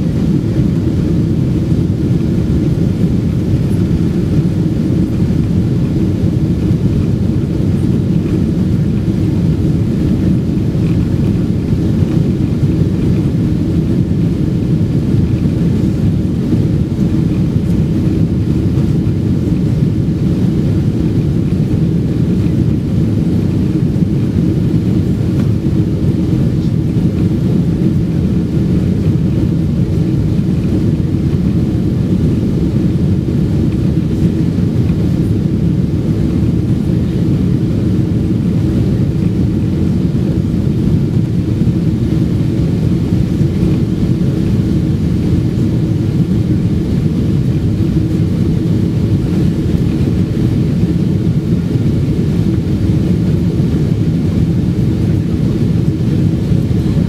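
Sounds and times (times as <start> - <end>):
jet engines droning: 0.0 - 57.0
rushing airflow: 0.0 - 57.0.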